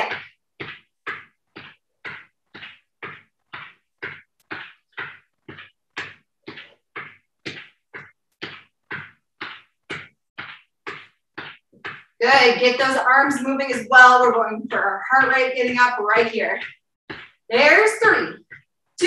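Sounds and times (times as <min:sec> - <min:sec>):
sneakered footfalls on exercise mat: 0:00.0 - 0:13.8, 0:14.6 - 0:19.0.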